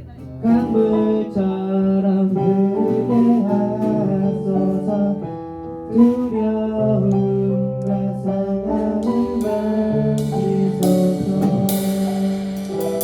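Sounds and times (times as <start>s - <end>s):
acoustic guitar: 0.0s - 13.0s
keyboard sustained chords: 0.0s - 13.0s.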